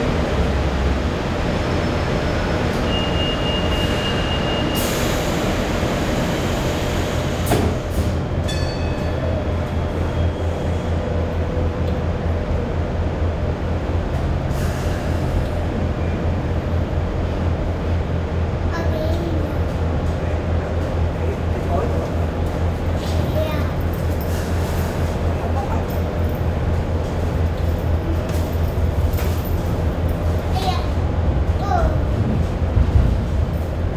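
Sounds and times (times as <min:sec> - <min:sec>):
train rumble and hum: 0:00.0 - 0:33.9.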